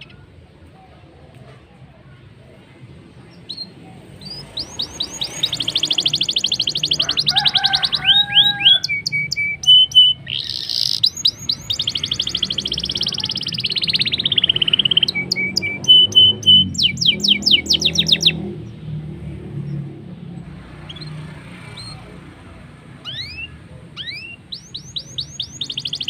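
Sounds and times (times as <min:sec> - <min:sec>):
canary singing trills: 0:00.0 - 0:00.4, 0:03.2 - 0:18.8, 0:19.6 - 0:26.0.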